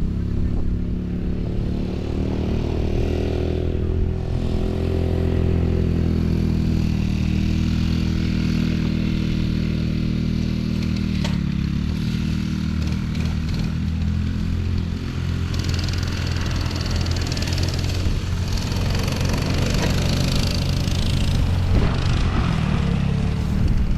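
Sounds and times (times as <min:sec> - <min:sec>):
off-road vehicle engine running: 0:00.0 - 0:23.9.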